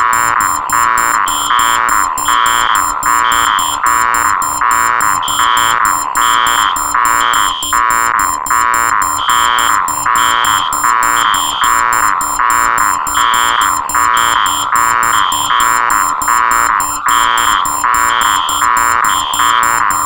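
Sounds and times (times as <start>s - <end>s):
harsh electronic alarm beep: 0.0s - 20.0s
high shrill beep: 0.0s - 20.0s.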